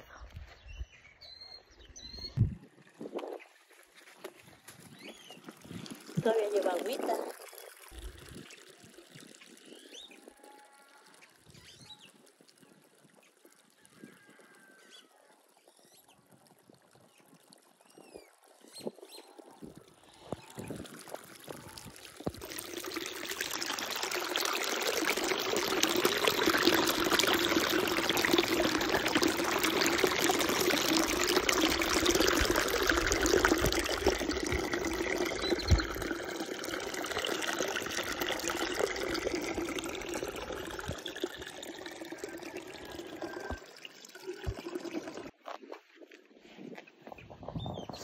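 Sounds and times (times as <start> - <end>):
river water pouring and trickling: 1.2 - 48.0.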